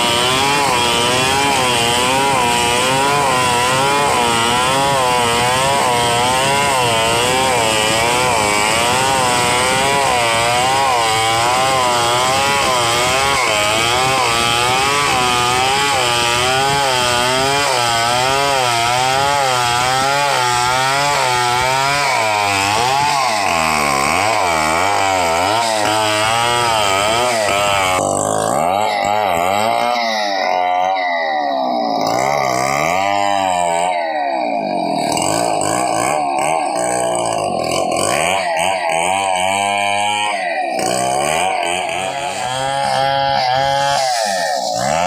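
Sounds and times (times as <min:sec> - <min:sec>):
chainsaw cutting a log: 0:00.0 - 0:45.0.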